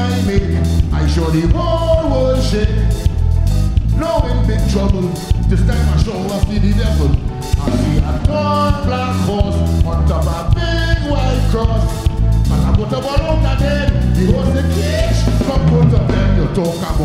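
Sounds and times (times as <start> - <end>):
calypso band playing: 0.0 - 17.0
man singing: 0.0 - 17.0.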